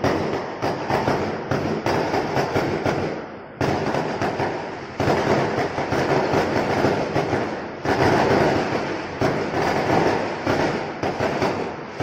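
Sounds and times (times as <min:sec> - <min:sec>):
fireworks bangs and crackle: 0:00.0 - 0:12.0.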